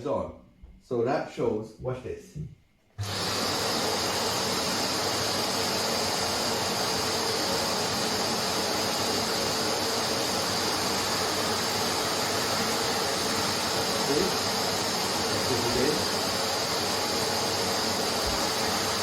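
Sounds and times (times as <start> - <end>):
vacuum cleaner running: 3.0 - 19.0.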